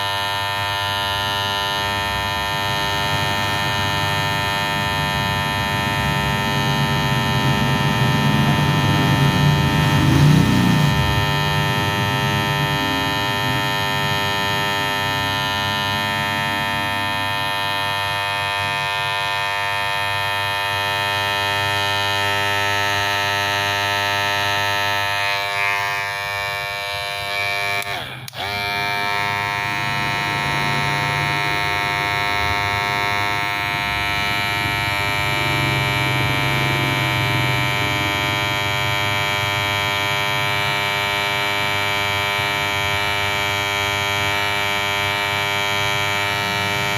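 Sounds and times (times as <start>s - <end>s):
electric hair clipper buzzing: 0.0s - 46.9s.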